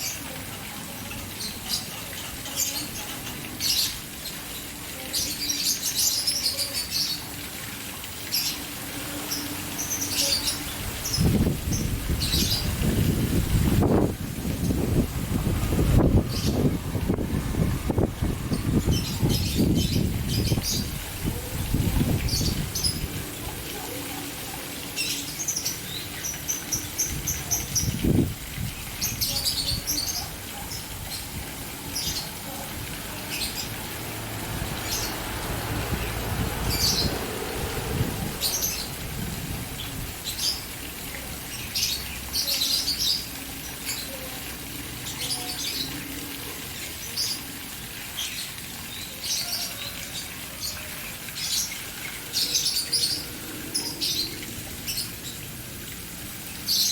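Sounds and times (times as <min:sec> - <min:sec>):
caged birds chirping: 0:00.0 - 0:56.9
fountain splashing: 0:00.0 - 0:56.9.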